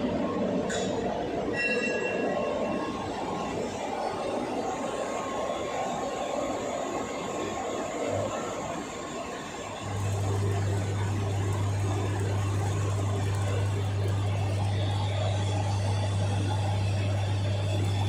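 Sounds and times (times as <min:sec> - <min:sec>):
furnace roaring: 0:02.9 - 0:18.0.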